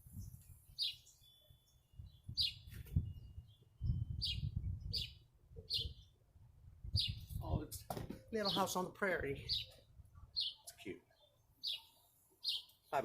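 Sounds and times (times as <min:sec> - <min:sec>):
small bird chirping: 0:00.0 - 0:06.2, 0:06.9 - 0:07.7, 0:09.4 - 0:13.0.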